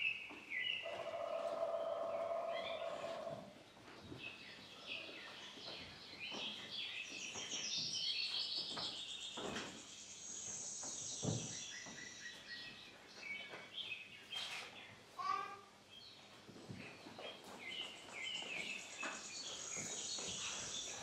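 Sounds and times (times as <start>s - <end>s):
birds chirping: 0.0s - 15.0s, 16.0s - 21.0s.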